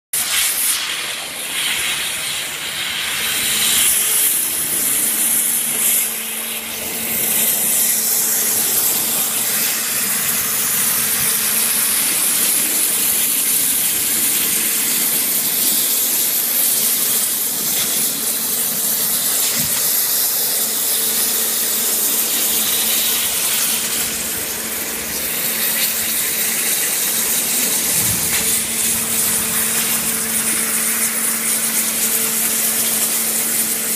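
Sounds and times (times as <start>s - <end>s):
waterjet hissing: 0.2s - 33.9s.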